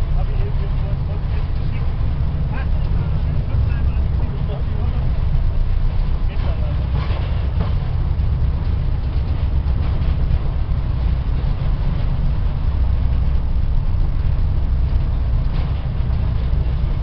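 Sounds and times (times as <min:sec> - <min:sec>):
train rumbling in tunnel: 0:00.0 - 0:17.0.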